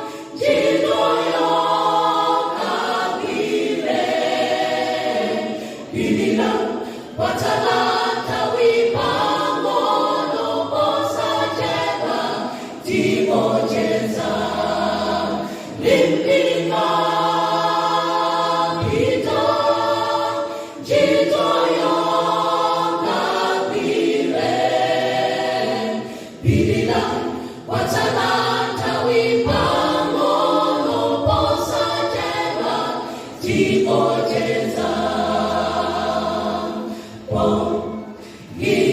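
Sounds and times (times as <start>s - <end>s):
choir singing gospel song: 0.0s - 38.9s.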